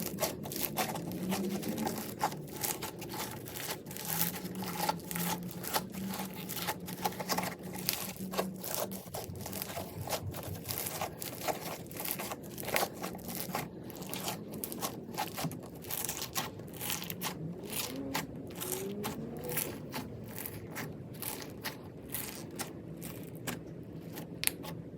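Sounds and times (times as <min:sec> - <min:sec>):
crunchy slime squished by hand: 0:00.0 - 0:24.9.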